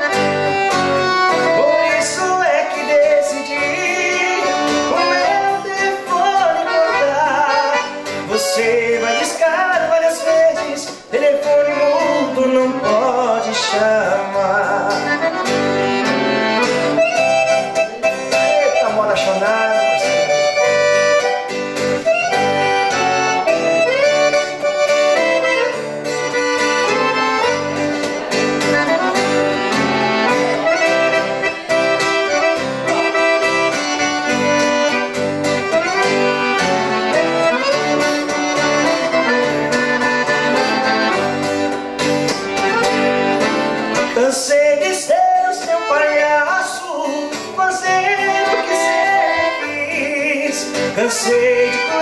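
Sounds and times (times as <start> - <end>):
band playing instrumental music: 0.0 - 52.0.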